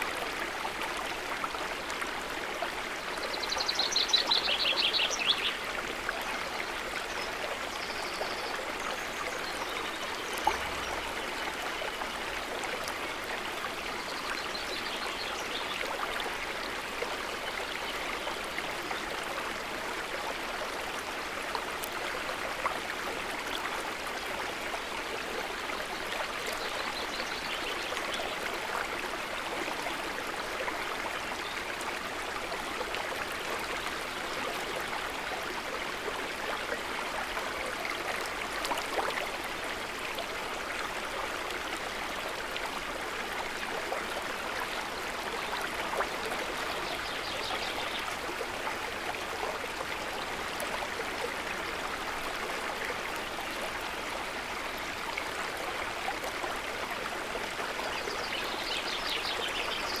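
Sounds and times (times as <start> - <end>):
river water running: 0.0 - 60.0.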